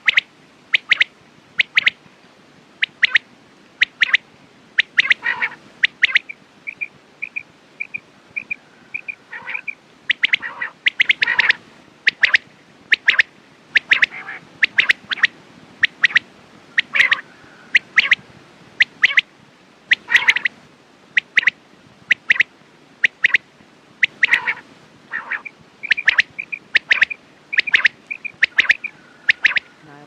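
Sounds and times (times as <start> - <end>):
quail calling: 0.0 - 2.0, 2.8 - 4.2, 4.8 - 19.3, 19.9 - 20.6, 21.2 - 23.4, 24.0 - 29.9.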